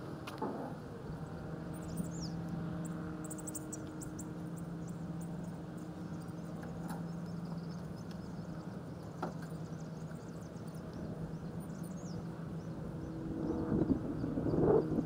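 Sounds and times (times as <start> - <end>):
steady low hum: 0.0 - 15.0
small birds chirping: 1.0 - 15.0.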